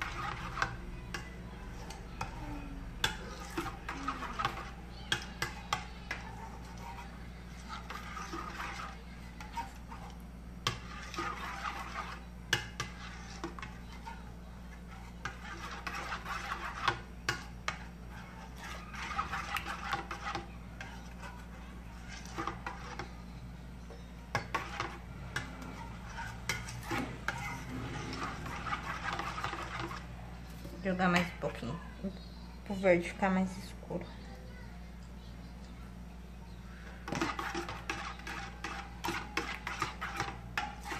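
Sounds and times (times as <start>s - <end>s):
metal spoon scraping steel bowl: 0.0s - 23.2s, 24.3s - 31.3s, 37.0s - 40.9s.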